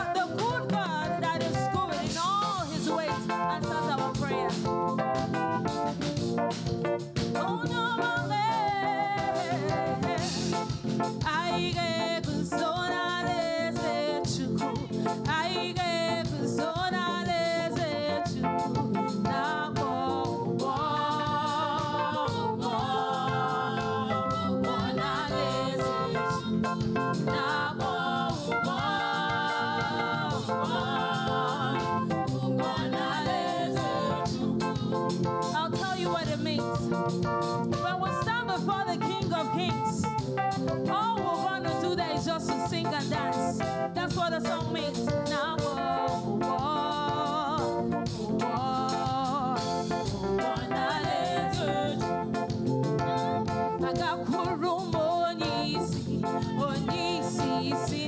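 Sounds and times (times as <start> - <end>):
band with keyboard and beat: 0.0 - 58.0
voices singing praise song: 0.0 - 58.0.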